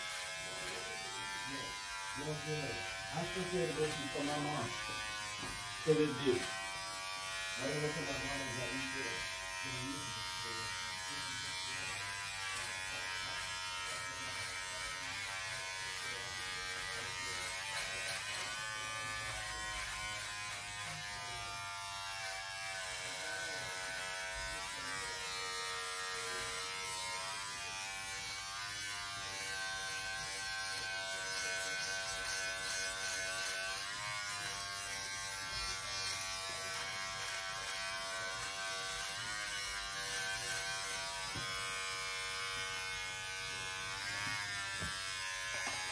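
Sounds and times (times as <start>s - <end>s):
electric shaver buzzing: 0.0s - 45.9s.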